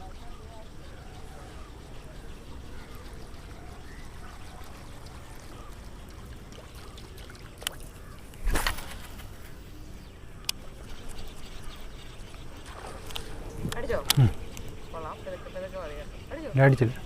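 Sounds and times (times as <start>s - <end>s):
water lapping around boat: 0.0s - 8.5s, 9.2s - 17.0s.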